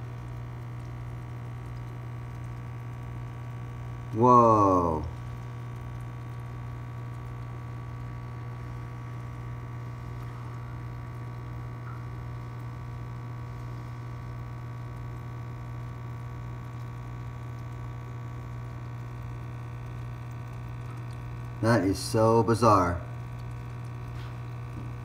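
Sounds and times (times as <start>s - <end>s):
aquarium pump humming: 0.0s - 25.0s
water trickling and bubbling: 0.0s - 25.0s.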